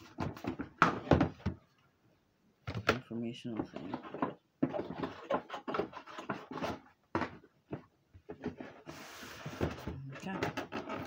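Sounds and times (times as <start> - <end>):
cardboard packaging knocks and scrapes: 0.0 - 1.6, 3.6 - 11.0.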